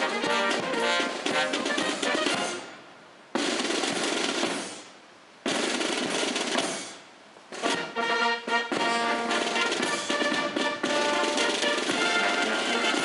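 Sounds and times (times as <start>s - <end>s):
percussion crashes: 0.0s - 2.7s, 3.4s - 8.0s, 8.7s - 13.0s
military band brass and drums: 0.0s - 13.0s.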